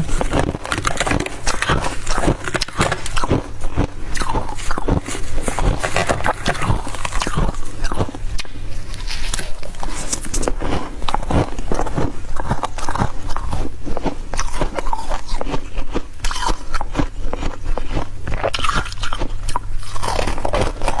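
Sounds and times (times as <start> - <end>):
chewing crunchy ice: 0.0 - 21.0
low steady hum: 0.0 - 21.0.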